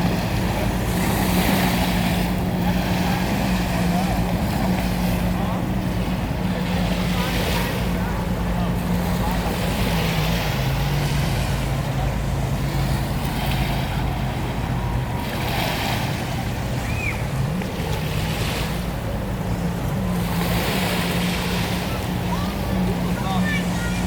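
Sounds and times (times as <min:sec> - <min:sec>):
motorboat engine humming: 0:00.0 - 0:24.0
wash of water: 0:00.0 - 0:24.0.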